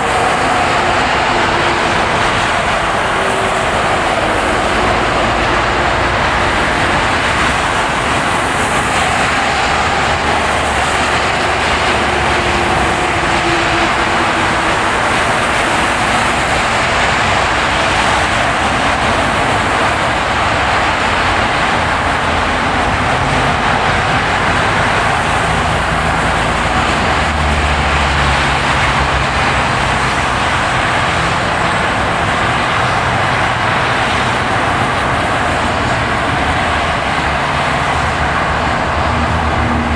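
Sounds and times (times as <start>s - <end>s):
low engine hum: 0.0s - 39.9s
tyre roar on snowy road: 0.0s - 39.9s.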